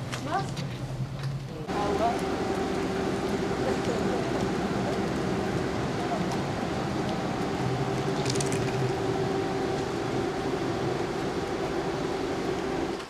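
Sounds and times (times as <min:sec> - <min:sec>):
cable car mechanical hum: 0:00.0 - 0:13.0.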